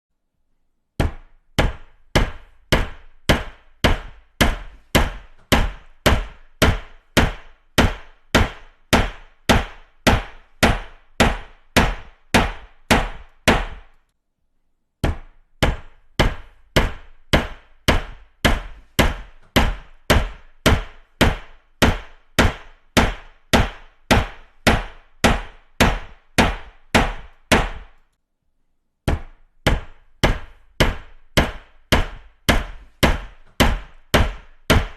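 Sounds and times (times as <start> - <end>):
hammer striking: 1.0 - 14.0, 15.0 - 28.0, 29.1 - 34.9.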